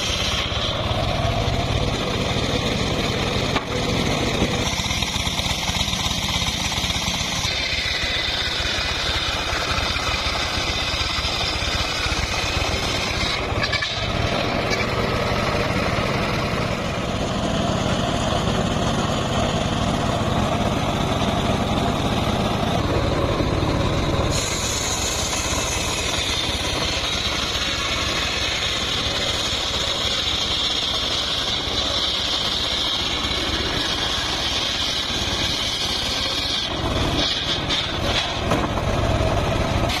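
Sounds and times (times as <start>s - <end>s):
engine-driven sawmill running: 0.0s - 40.0s.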